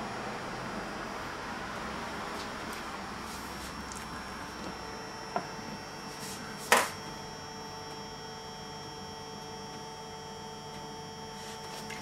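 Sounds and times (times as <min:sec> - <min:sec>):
small fan motor humming: 0:00.0 - 0:12.0.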